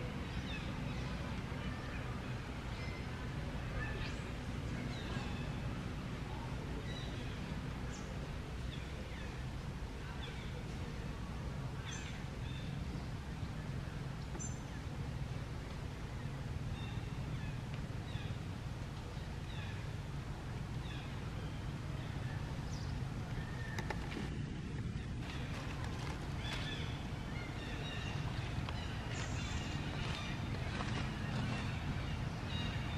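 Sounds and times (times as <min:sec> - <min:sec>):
steady low rumble: 0:00.0 - 0:32.9.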